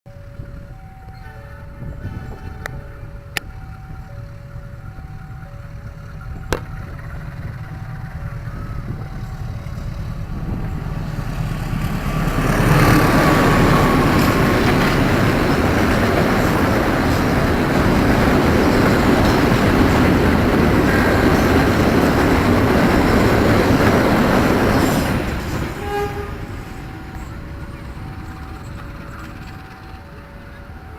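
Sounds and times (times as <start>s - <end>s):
level crossing warning alarm: 0.1s - 30.9s
train wheels rumbling on rail: 0.1s - 30.9s.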